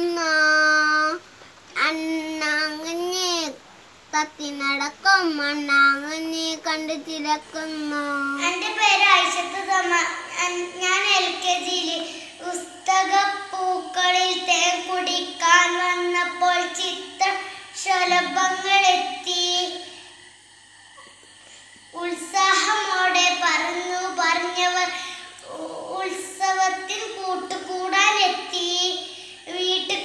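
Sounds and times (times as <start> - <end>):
child singing: 0.0 - 1.2, 1.8 - 19.9, 22.0 - 30.0.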